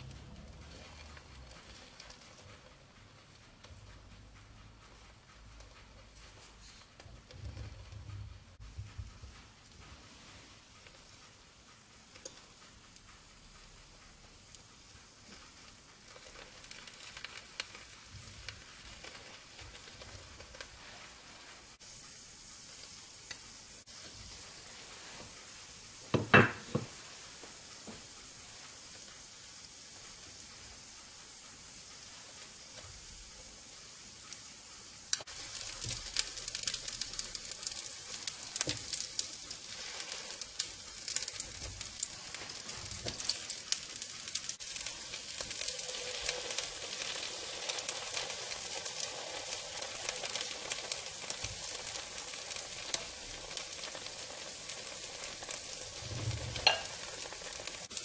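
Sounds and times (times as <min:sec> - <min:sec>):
egg sizzling in oil: 0:00.0 - 0:58.0.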